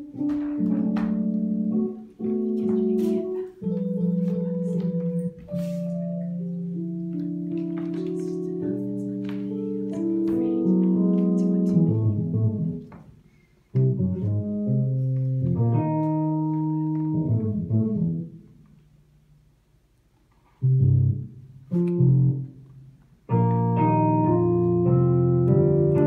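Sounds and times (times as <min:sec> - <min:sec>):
improvised instrumental music: 0:00.0 - 0:18.7, 0:23.3 - 0:26.0.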